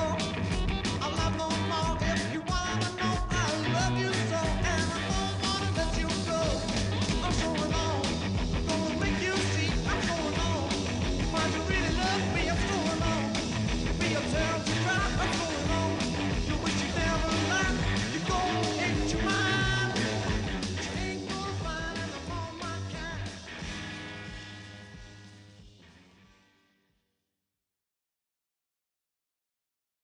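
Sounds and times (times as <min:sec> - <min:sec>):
rock song with singing: 0:00.0 - 0:26.0.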